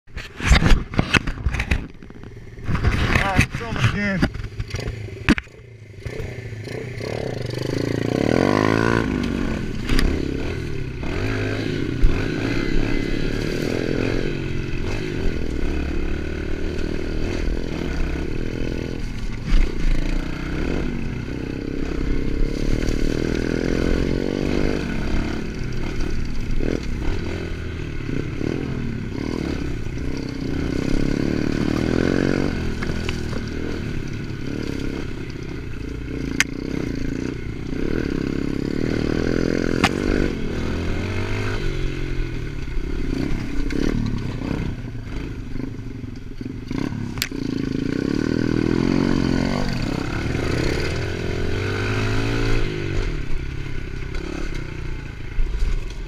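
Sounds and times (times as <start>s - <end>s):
bike rattling over rough ground: 0.1s - 56.0s
small motorbike engine revving: 0.2s - 56.0s.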